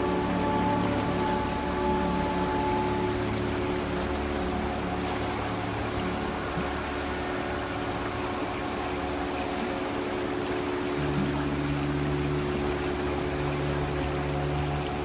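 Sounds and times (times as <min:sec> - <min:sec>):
low held tones: 0:00.0 - 0:15.0
river rushing over boulders: 0:00.0 - 0:15.0.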